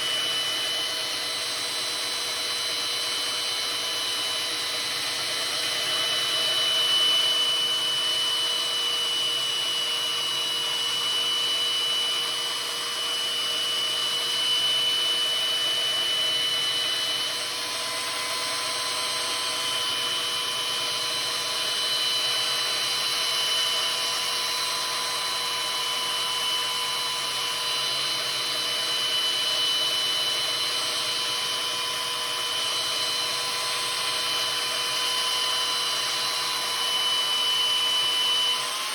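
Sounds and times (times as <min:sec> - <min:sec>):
power tool whining: 0:00.0 - 0:38.9.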